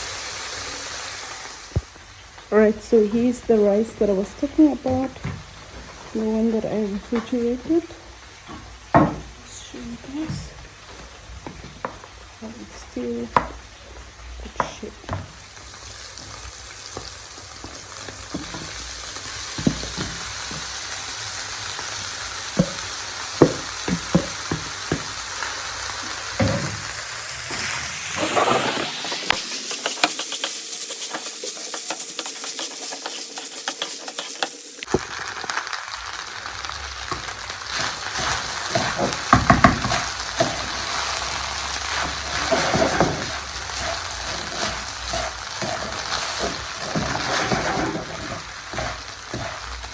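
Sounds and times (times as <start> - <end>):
food sizzling in a pan: 0.0 - 49.9.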